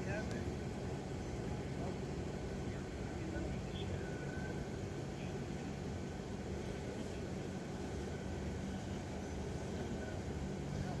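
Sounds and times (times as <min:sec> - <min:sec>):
street background noise: 0:00.0 - 0:11.0.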